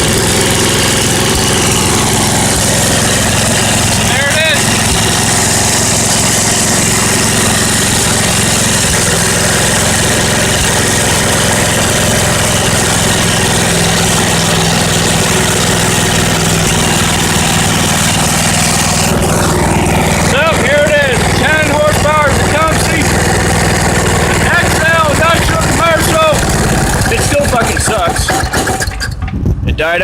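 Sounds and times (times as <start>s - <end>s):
riding lawn mower engine running: 0.0s - 30.0s.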